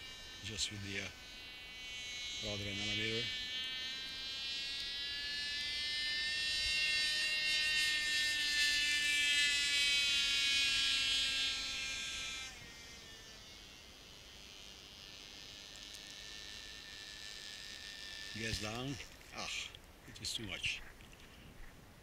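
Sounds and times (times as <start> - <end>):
model plane engine buzzing: 0.0 - 19.3.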